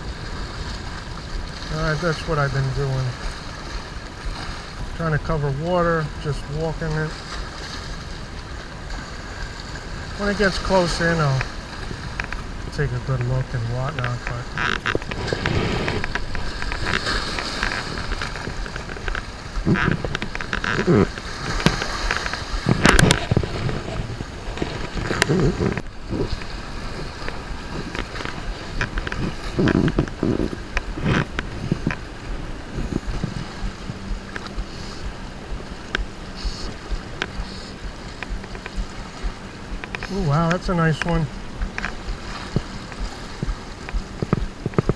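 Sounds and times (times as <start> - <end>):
small waves sloshing on rocks: 0.0 - 44.9
wind buffeting the microphone: 0.0 - 44.9.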